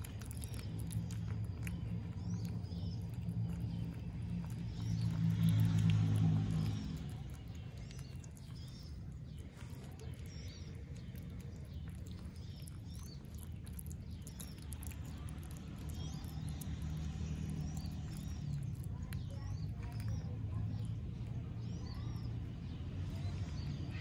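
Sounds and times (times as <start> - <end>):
otter chewing fish: 0.0 - 24.0
soft wet clicking: 0.0 - 24.0.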